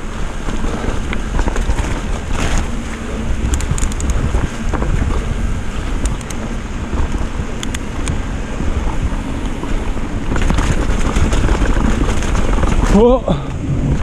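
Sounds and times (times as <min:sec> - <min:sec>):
bike clicks and rattles: 0:00.0 - 0:14.0
mountain bike rumbling on trail: 0:00.0 - 0:14.0
wind buffeting microphone: 0:00.0 - 0:14.0.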